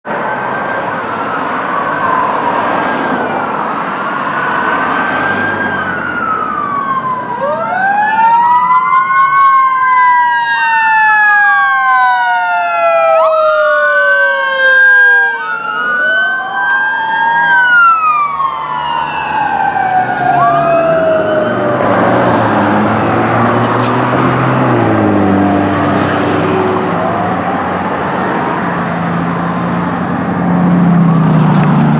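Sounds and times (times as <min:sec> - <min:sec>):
emergency sirens wailing: 0:00.1 - 0:31.9.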